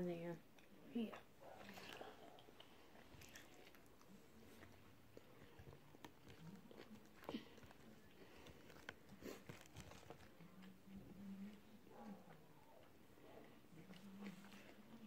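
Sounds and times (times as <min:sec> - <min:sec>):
chewing and mouth sounds: 0:00.6 - 0:15.0.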